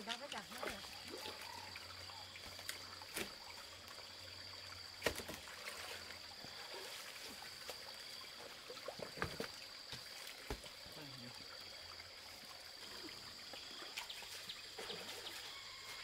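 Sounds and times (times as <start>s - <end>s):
stream water sloshing: 0.0s - 16.0s.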